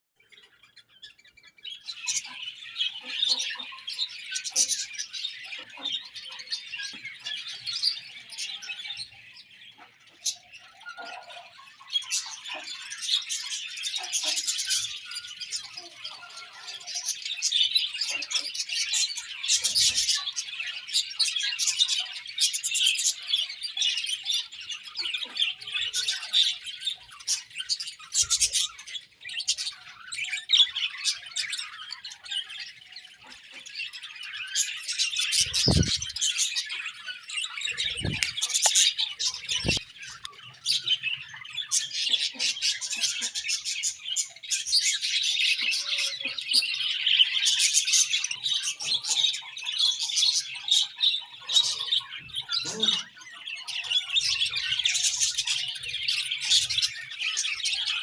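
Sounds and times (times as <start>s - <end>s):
budgerigars chirping and warbling: 0.2s - 58.0s.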